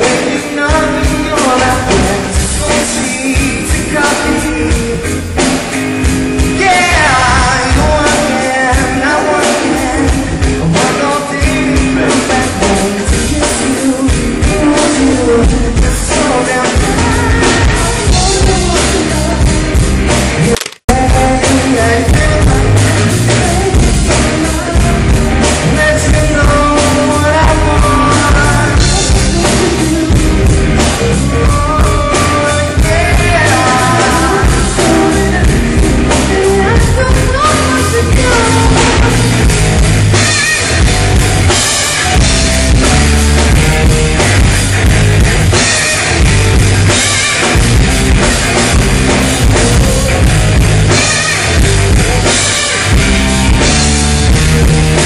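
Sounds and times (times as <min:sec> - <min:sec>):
drum kit: 0:00.0 - 0:55.0
live rock band playing: 0:00.0 - 0:55.0.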